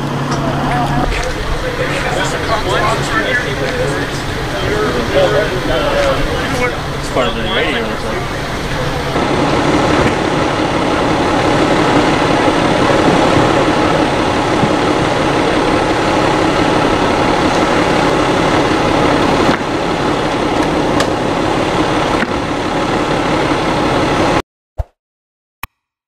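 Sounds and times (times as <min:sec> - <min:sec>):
diesel engine idling: 0:00.0 - 0:24.4.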